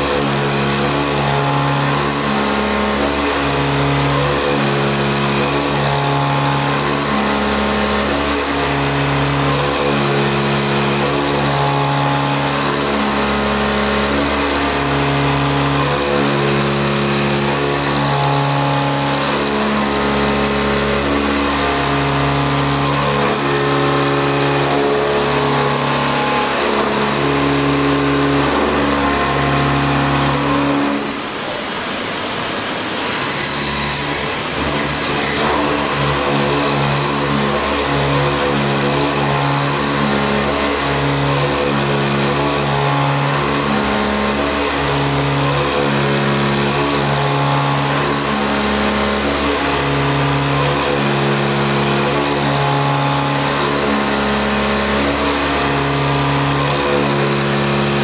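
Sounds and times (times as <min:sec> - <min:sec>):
milling machine cutting metal: 0:00.0 - 0:58.0.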